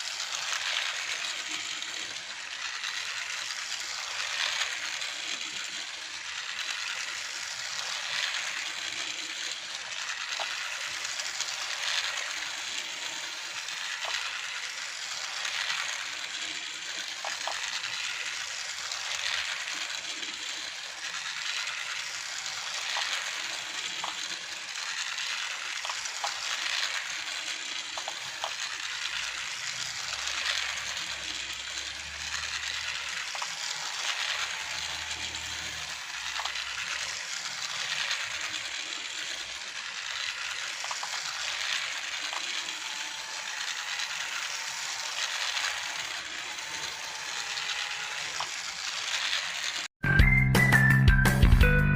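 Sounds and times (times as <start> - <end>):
toy vehicle motors running: 0.0 - 49.9.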